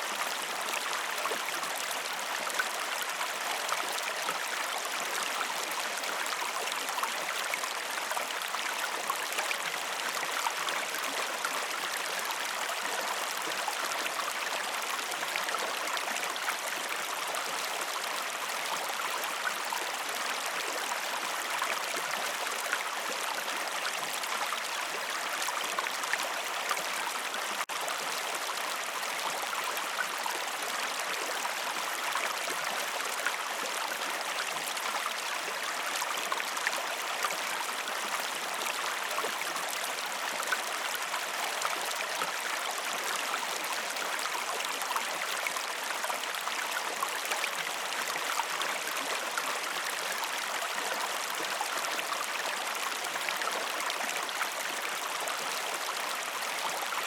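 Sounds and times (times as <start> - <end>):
river water rushing and babbling: 0.0 - 57.0.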